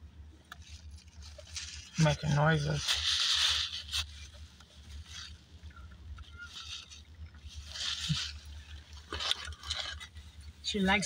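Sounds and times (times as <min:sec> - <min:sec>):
car engine idling: 0:00.0 - 0:11.0
soft rustles: 0:00.4 - 0:10.8.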